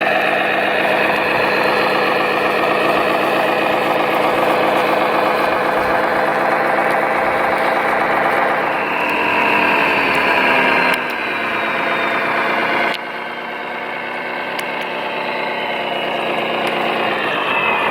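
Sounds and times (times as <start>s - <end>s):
model vehicle engine running: 0.0s - 17.9s.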